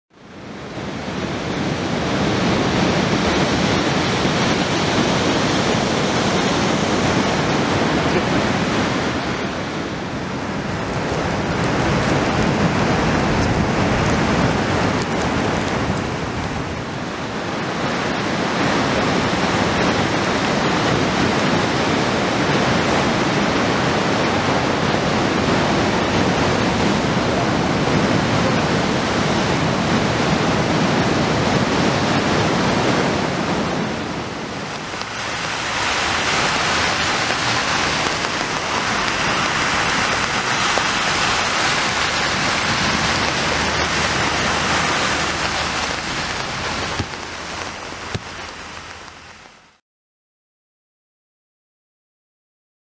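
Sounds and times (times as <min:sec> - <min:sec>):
storm wind and water rushing: 0:00.1 - 0:49.8
rain hissing: 0:00.2 - 0:49.8
tyres splashing through flooded street: 0:00.2 - 0:49.8.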